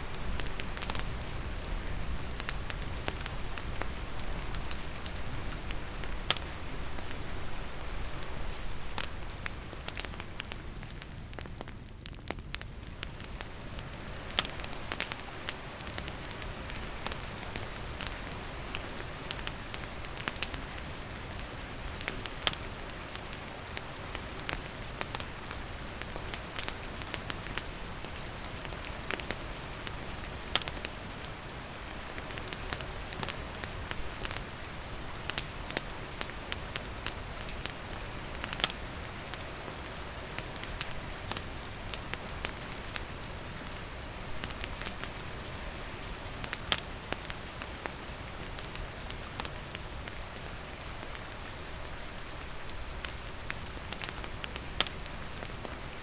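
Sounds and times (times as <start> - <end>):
campfire crackling and popping: 0.0 - 56.0
rain falling: 0.0 - 56.0.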